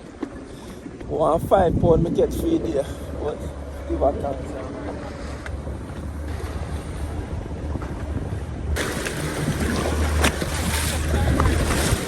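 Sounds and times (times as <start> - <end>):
boat engine droning: 0.0 - 12.0
water noise: 0.0 - 12.0
rushing wind: 0.8 - 12.0.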